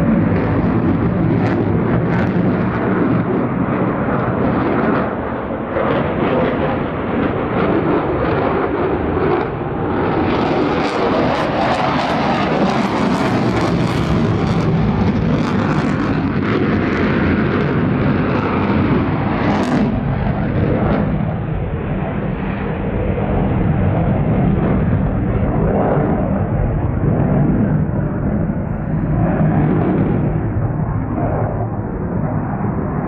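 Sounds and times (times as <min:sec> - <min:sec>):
jet fighter roar: 0:00.0 - 0:33.0.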